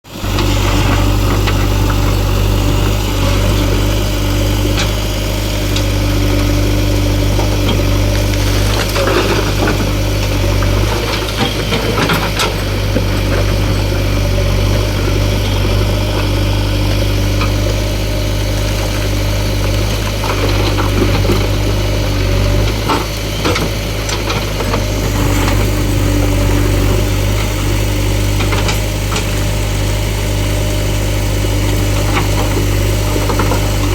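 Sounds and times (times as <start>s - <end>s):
heavy diesel engine running: 0.0s - 33.9s.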